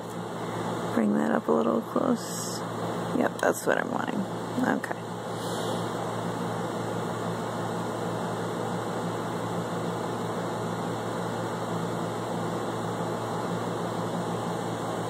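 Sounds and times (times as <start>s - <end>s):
steady hiss with low hum: 0.0s - 15.0s.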